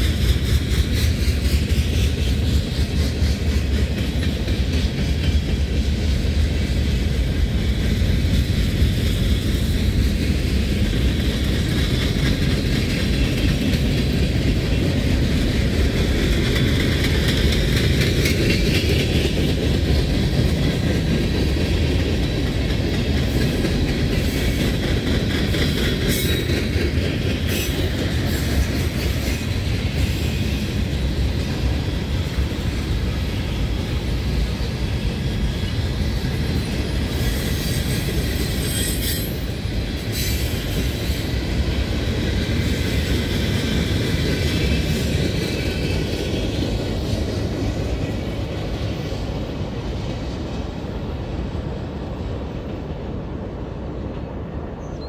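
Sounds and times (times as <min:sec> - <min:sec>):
clickety-clack over rail joints: 0:00.0 - 0:55.0
freight train wheels rumbling: 0:00.0 - 0:55.0.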